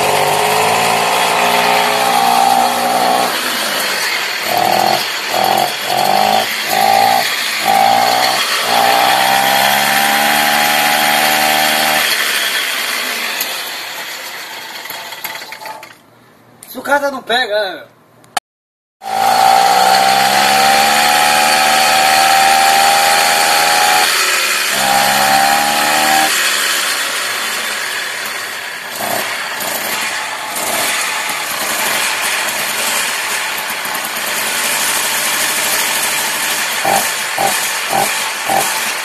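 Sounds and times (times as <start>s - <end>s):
moped engine running: 0.0s - 15.0s, 19.0s - 39.0s.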